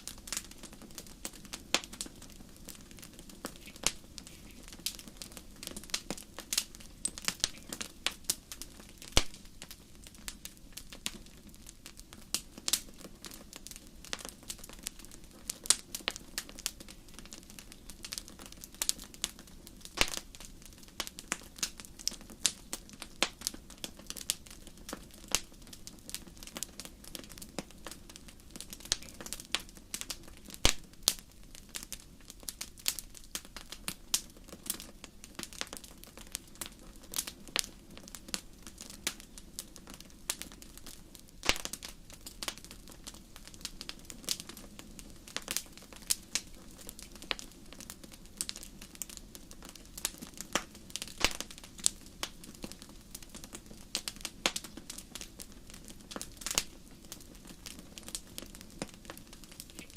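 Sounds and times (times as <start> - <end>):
low steady hiss: 0.0 - 59.9
wood fire crackling and popping: 0.0 - 59.9.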